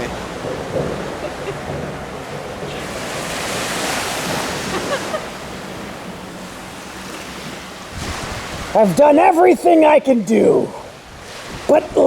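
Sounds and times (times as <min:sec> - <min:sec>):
ocean wave breaking: 0:00.0 - 0:12.0.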